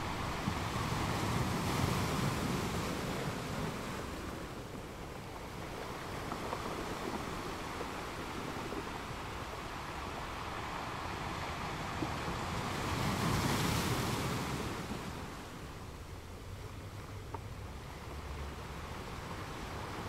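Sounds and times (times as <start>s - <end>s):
ocean waves crashing: 0.0s - 16.3s, 17.7s - 20.0s.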